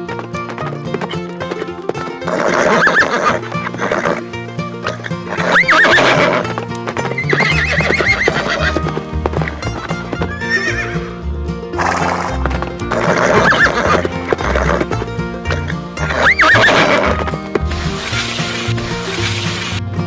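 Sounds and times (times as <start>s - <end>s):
background music with bass line: 0.0s - 20.0s
horse whinnying: 0.1s - 11.1s, 11.8s - 19.6s.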